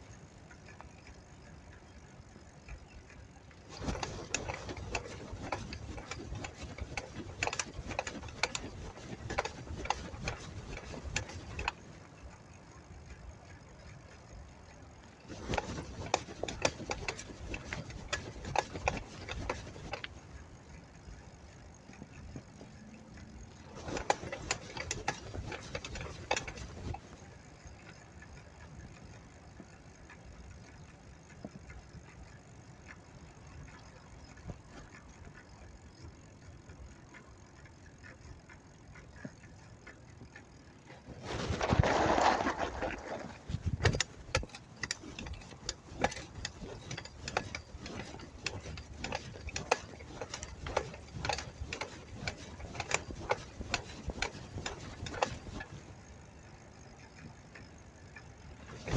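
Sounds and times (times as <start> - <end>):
bicycle clicking and rattling: 0.0 - 58.9
bicycle rolling noise: 0.0 - 58.9.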